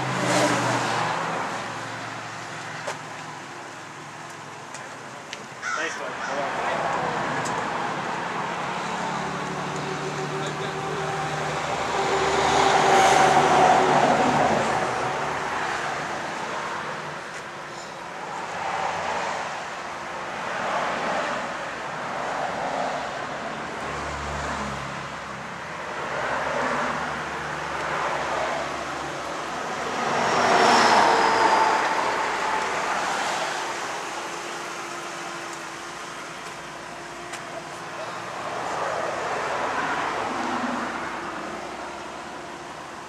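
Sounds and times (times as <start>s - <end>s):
motor vehicle engine and road noise: 0.0s - 43.0s.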